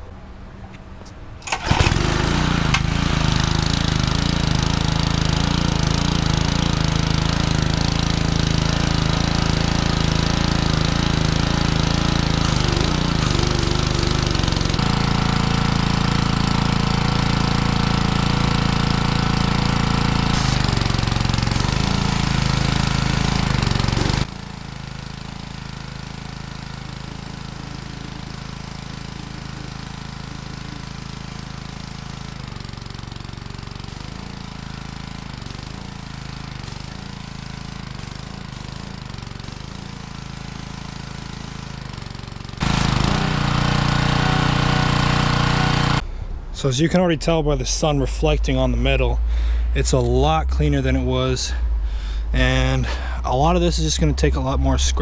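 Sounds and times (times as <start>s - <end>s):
pressure washer engine running: 1.4s - 55.0s.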